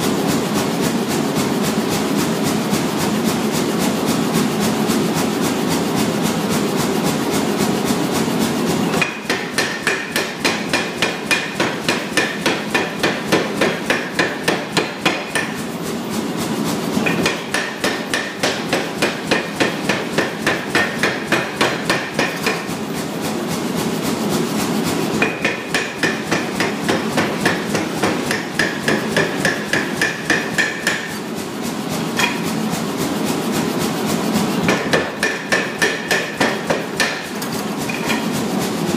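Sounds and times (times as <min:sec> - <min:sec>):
steady running noise: 0:00.0 - 0:38.9.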